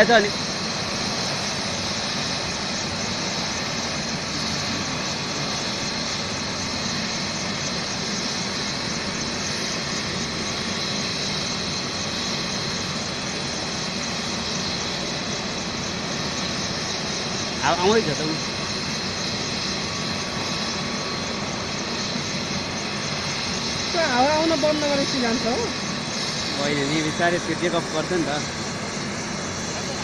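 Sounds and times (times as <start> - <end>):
helicopter engine whining: 0.0 - 30.0.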